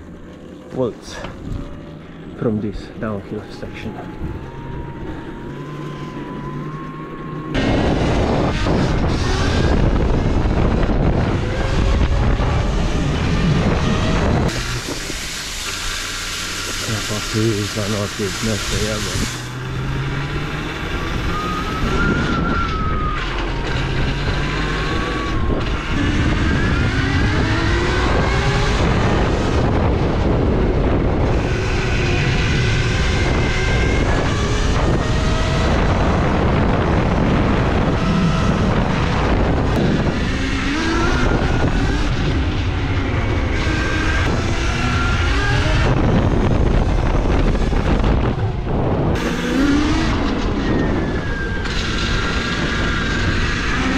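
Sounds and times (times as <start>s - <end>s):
wind and road noise: 0.0s - 53.9s
electric motor whining: 3.5s - 53.9s.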